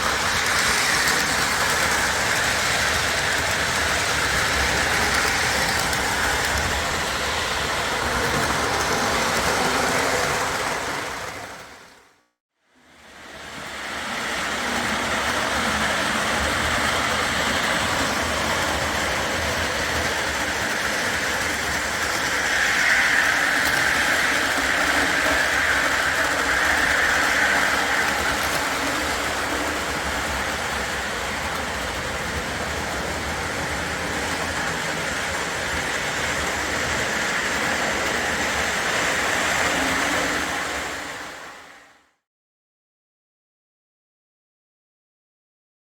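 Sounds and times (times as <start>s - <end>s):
model train rolling on track: 0.0s - 12.2s, 12.8s - 41.9s.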